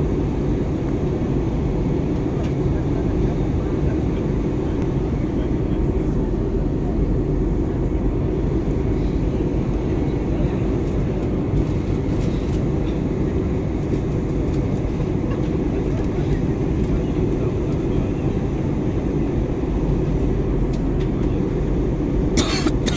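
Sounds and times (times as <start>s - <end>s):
airliner cabin engine and airflow noise: 0.0s - 22.9s.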